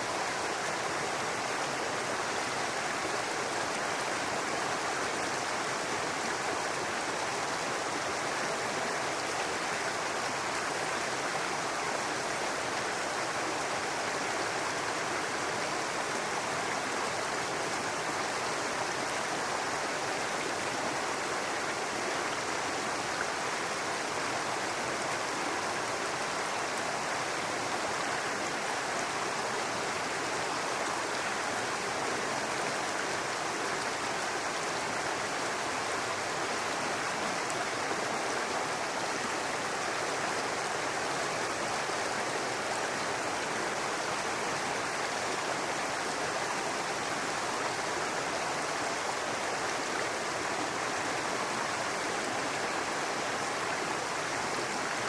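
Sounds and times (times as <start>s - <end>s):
brook babbling over rocks: 0.0s - 55.0s.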